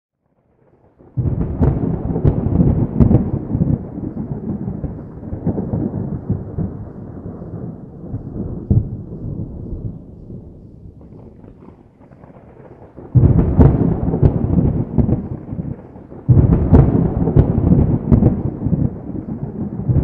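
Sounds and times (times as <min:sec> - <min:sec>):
thunder clap and rumble: 0:01.0 - 0:20.0.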